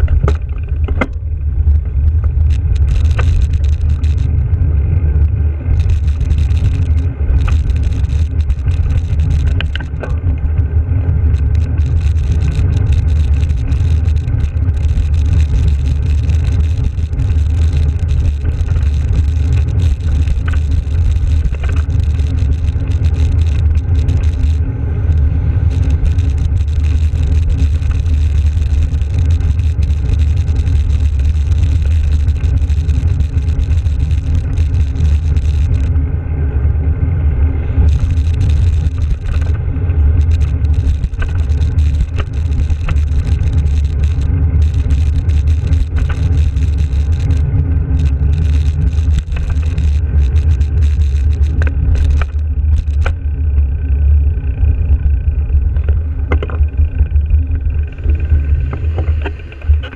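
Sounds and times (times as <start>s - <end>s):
wind buffeting microphone: 0.0s - 53.8s
tyre on road noise: 0.0s - 59.9s.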